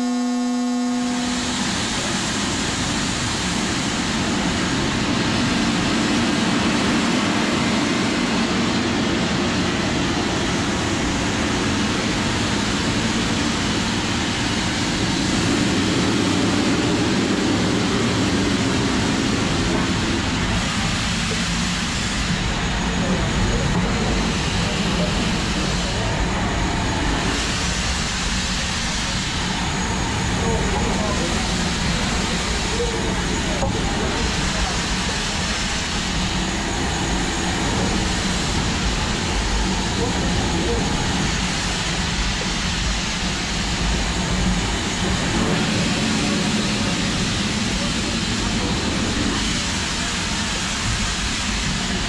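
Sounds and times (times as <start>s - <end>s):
steam locomotive hissing steam: 1.2s - 52.0s.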